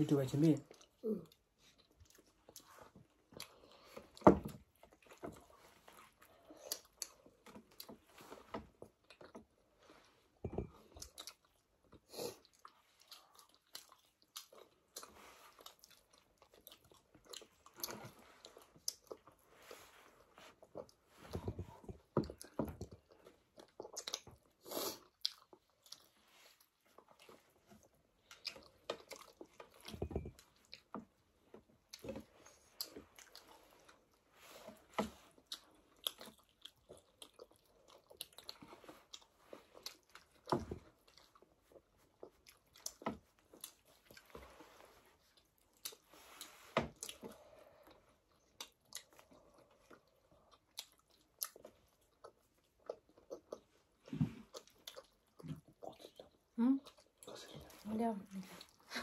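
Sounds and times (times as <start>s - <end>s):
people chewing and biting: 0.6s - 57.8s.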